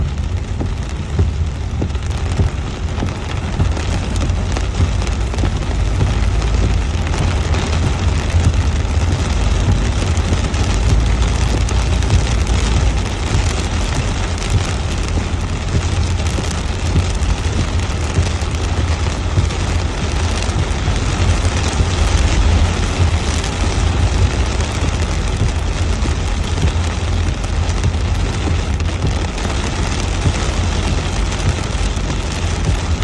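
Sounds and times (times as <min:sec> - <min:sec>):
heavy rain pouring: 0:00.0 - 0:33.0
low rumble: 0:00.0 - 0:33.0.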